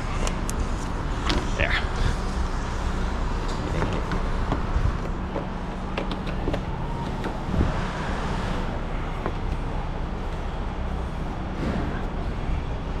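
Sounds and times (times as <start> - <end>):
shop hum: 0.0 - 13.0.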